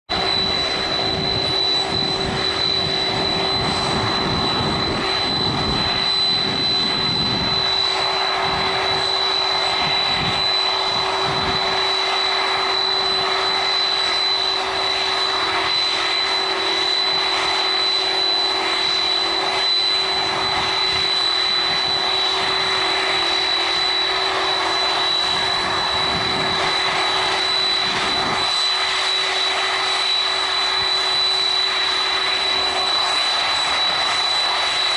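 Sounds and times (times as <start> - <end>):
high constant whine: 0.1 - 34.9
jet engines roaring: 0.1 - 34.9.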